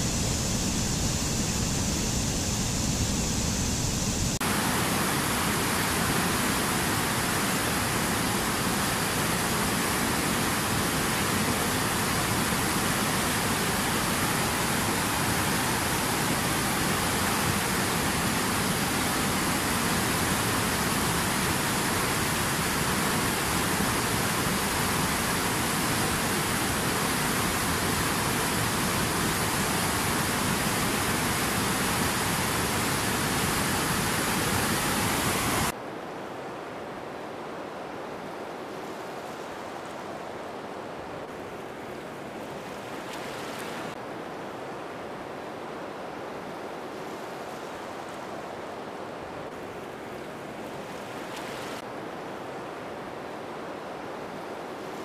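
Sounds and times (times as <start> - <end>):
river rushing over rocks: 0.0 - 55.0
soft water sound: 0.0 - 55.0.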